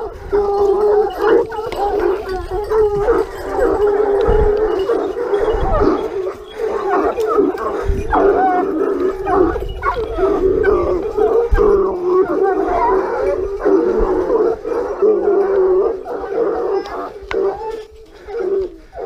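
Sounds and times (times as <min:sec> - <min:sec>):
hounds baying: 0:00.0 - 0:19.0.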